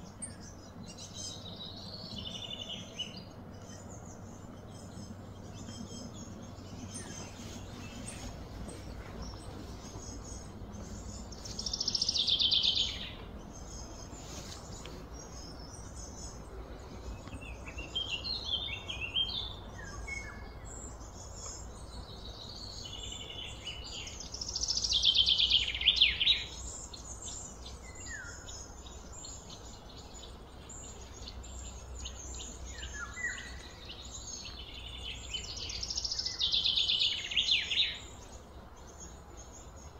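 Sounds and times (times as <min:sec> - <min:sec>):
birds chirping: 0:00.0 - 0:39.9
low background hum: 0:00.0 - 0:39.9.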